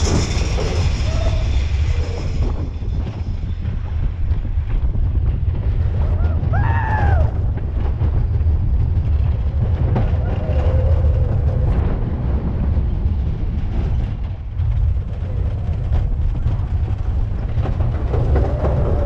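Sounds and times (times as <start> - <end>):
roller coaster rumbling on track: 0.0 - 19.0
wind buffeting microphone: 0.0 - 19.0.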